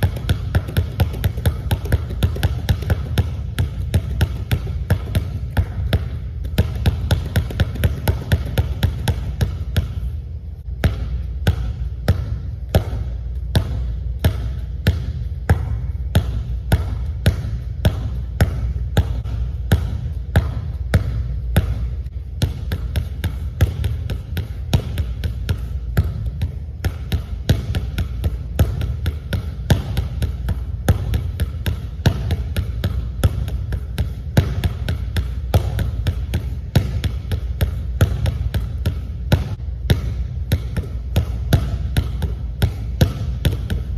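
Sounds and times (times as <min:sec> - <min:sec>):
basketball bouncing on hardwood floor: 0:00.0 - 0:43.9
steady low hum: 0:00.0 - 0:43.9.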